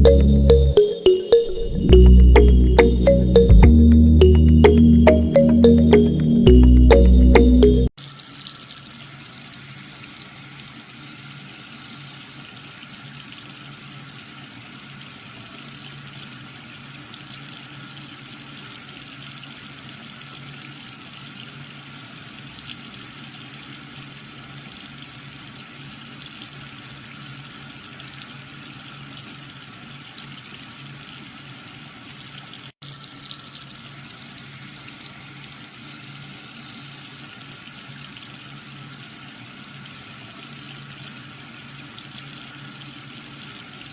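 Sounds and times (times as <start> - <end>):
water running and spraying: 8.0 - 43.9.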